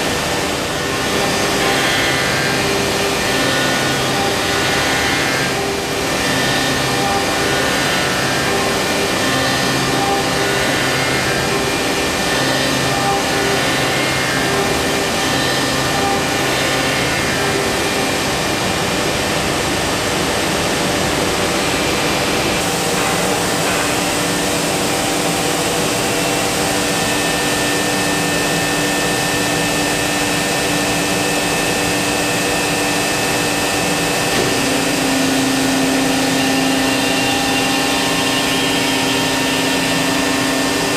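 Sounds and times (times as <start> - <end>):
woodworking machine whining: 0.0 - 40.9.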